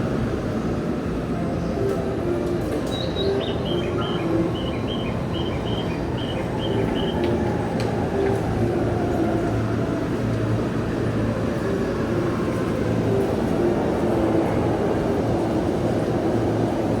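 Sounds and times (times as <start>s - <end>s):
train station platform noise: 0.0s - 17.0s.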